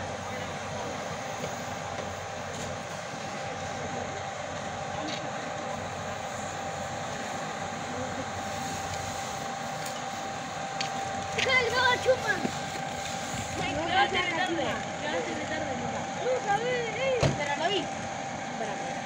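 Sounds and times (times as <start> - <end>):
constant tone: 0.0 - 19.0
fire engine pump roaring: 0.0 - 19.0.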